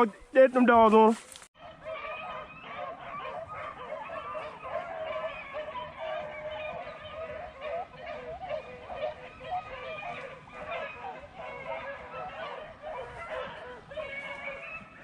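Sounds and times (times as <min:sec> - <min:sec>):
beagles baying and yelping: 0:00.0 - 0:15.0.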